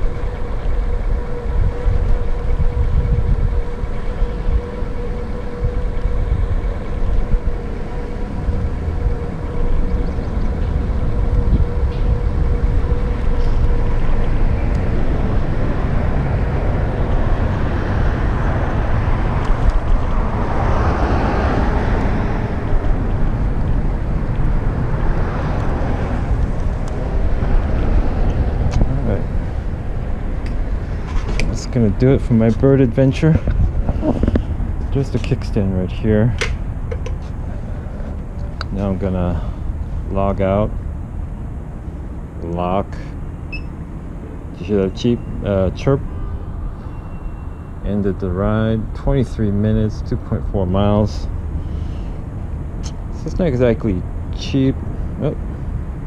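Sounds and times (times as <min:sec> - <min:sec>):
road rumble: 0:00.0 - 0:56.0
thin steady whine: 0:00.0 - 0:56.0
wind buffeting microphone: 0:00.0 - 0:56.0.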